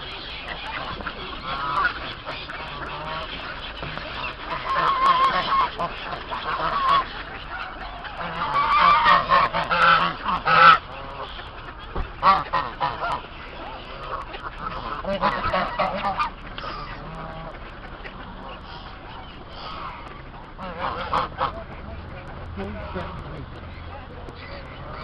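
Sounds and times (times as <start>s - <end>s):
geese honking: 0.0s - 25.0s.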